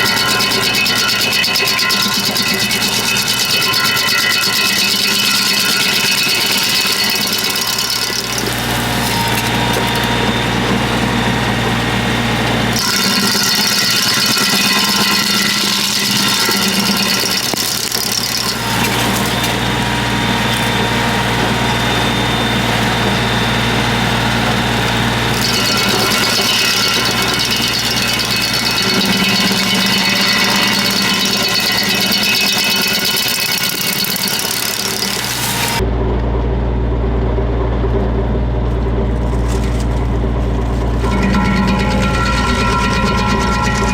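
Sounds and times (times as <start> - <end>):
stump grinder grinding wood: 0.0 - 35.8, 38.6 - 43.9
tractor engine running: 0.0 - 43.9.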